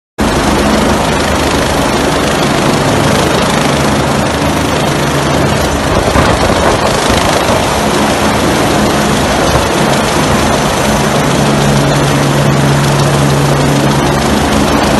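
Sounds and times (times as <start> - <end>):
helicopter hovering: 0.2 - 14.9.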